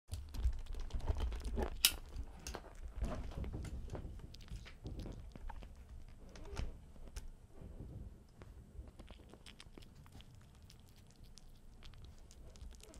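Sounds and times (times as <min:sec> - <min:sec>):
kitten crunching dry kibble: 0:00.1 - 0:12.9.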